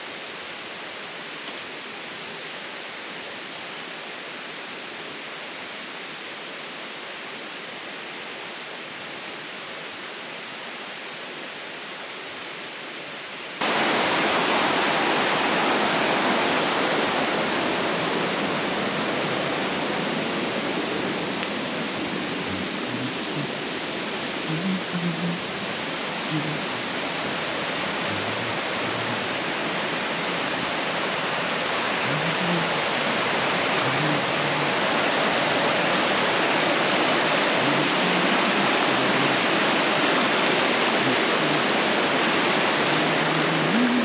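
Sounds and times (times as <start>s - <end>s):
rushing water: 0.0s - 44.0s.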